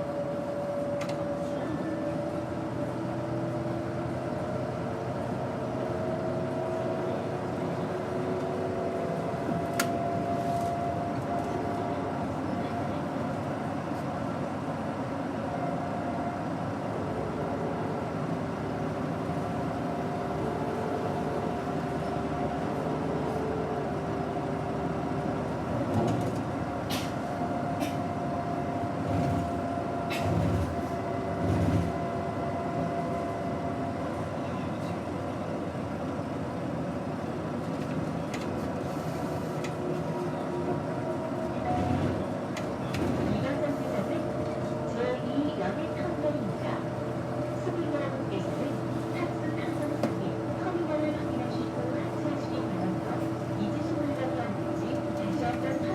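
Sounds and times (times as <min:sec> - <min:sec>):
bus engine whining: 0:00.0 - 0:55.9.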